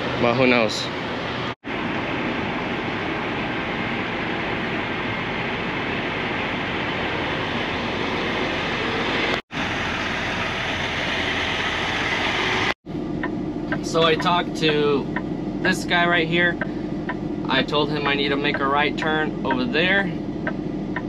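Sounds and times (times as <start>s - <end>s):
diesel truck idling: 1.0s - 21.0s.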